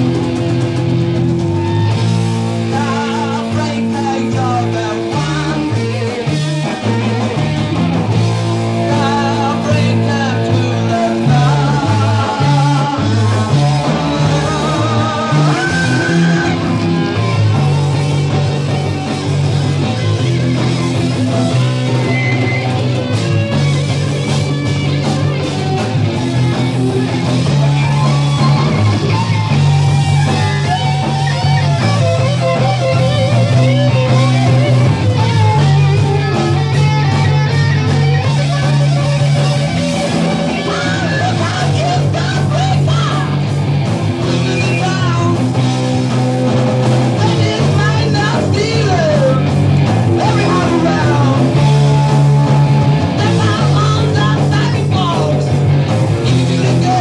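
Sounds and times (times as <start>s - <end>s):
live heavy rock band: 0.0s - 57.0s.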